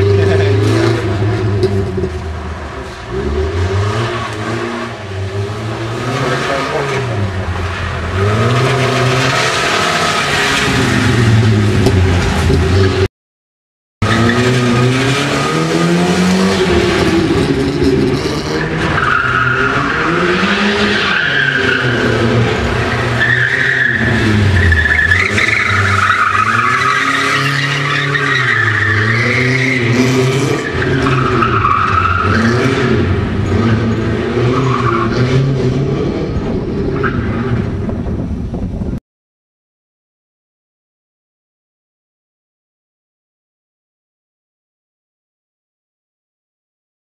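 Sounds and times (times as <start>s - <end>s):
rally car engine revving: 0.0s - 13.1s, 14.0s - 38.7s.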